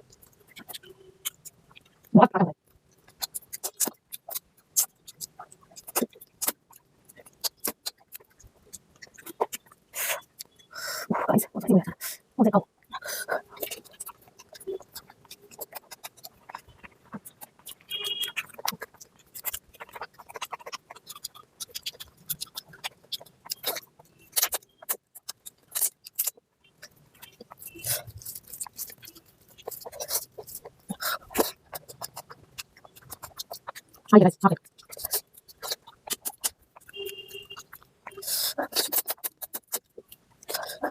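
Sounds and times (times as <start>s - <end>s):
wet chewing and smacking: 0.0s - 10.7s, 12.6s - 40.9s.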